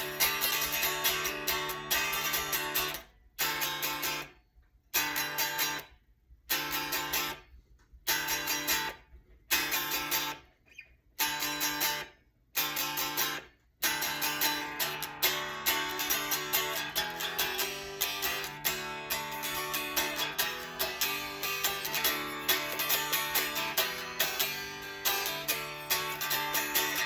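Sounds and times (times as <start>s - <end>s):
unplugged electric guitar strumming: 0.0s - 4.3s, 5.0s - 5.9s, 6.5s - 7.4s, 8.1s - 10.4s, 11.2s - 27.0s.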